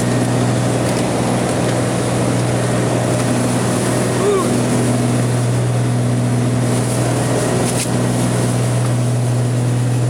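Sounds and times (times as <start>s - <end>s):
small plane engine drone: 0.0s - 10.0s.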